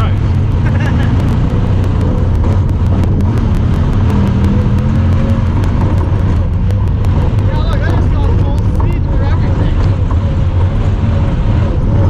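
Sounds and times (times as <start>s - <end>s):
fast faint ticking: 0.0s - 12.0s
vehicle engine running: 0.0s - 12.0s.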